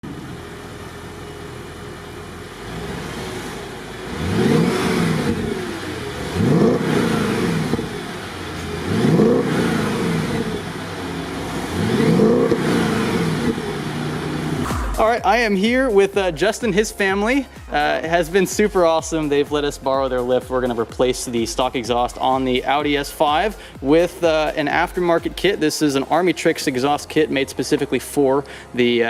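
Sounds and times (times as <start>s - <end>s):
car engine idling and revving: 0.0s - 28.6s.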